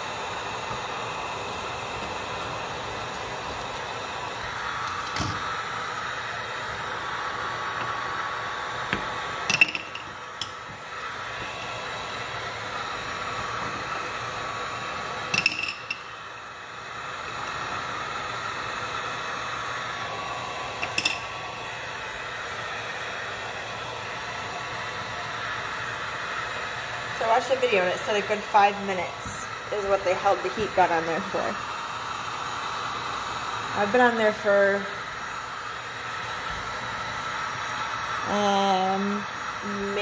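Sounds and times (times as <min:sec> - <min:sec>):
heat gun blowing air: 0:00.0 - 0:40.0.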